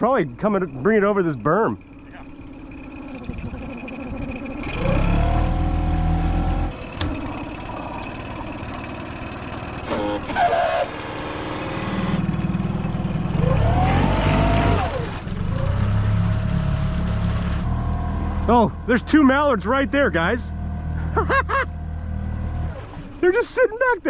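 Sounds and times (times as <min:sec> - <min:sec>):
boat motor revving: 0:00.0 - 0:23.7.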